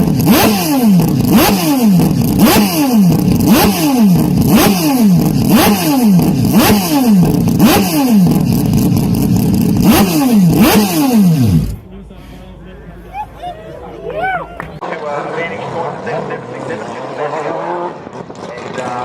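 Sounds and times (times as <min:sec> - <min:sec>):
race car engine: 0:00.0 - 0:13.0, 0:14.2 - 0:19.0.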